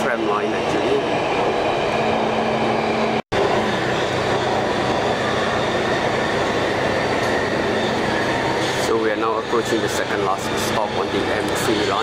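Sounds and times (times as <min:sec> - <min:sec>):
metro train rumbling in tunnel: 0:00.0 - 0:12.0.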